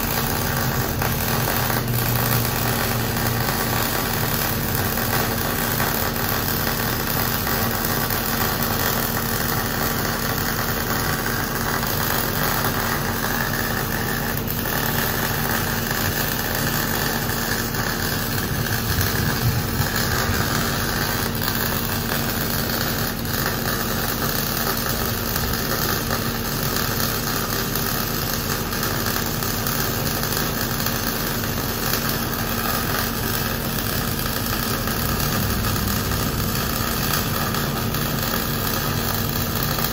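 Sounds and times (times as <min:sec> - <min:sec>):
welding arc hissing: 0:00.0 - 0:39.9.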